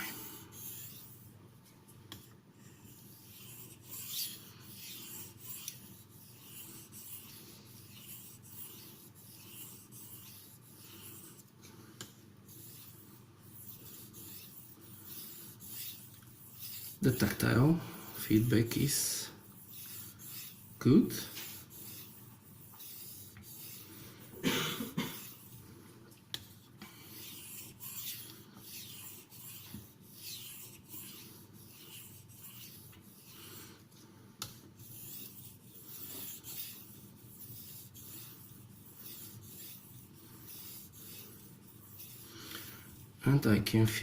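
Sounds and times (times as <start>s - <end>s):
knife stroked over sharpening stone: 2.6s - 11.5s, 12.5s - 23.9s, 26.4s - 33.4s, 34.5s - 43.1s.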